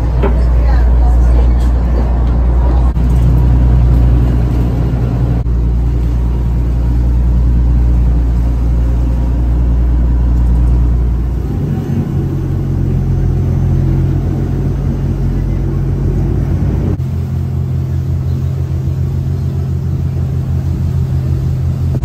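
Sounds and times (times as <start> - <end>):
motorboat engine drone: 0.0 - 22.0
water noise: 0.0 - 22.0.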